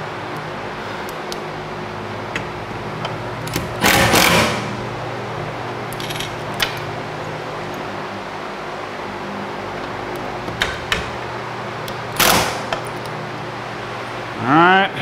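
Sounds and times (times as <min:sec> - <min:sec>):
shop fans humming: 0:00.0 - 0:15.0.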